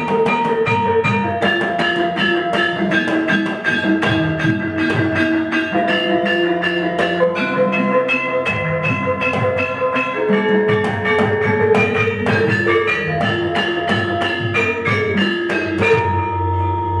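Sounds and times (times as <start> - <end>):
hand drums: 0.0 - 17.0
metallophones ringing: 0.0 - 17.0.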